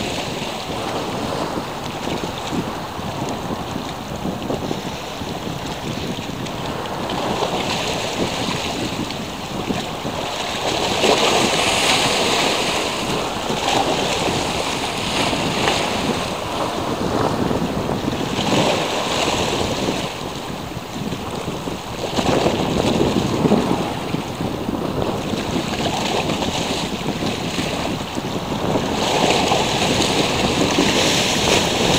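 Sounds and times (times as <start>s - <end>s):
sea waves washing: 0.0s - 31.9s
wind buffeting microphone: 0.0s - 31.9s.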